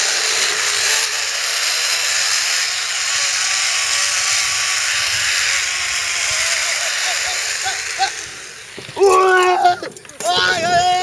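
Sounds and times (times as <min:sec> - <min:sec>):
zipline pulley whirring on cable: 0:00.0 - 0:11.0.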